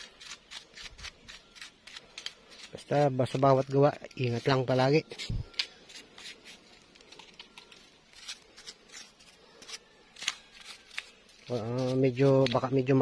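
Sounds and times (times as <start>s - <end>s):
brush ticks and rustles on steel: 0.0s - 13.0s.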